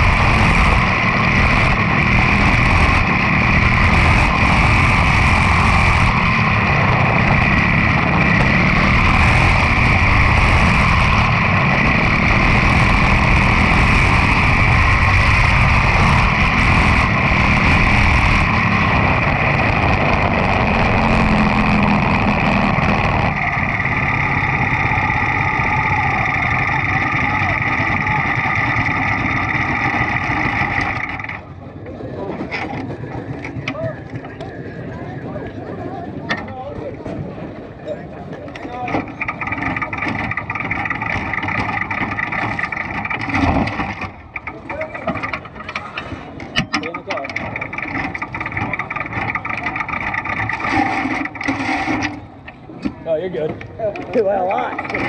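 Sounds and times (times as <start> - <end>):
race car engine running: 0.0 - 55.0.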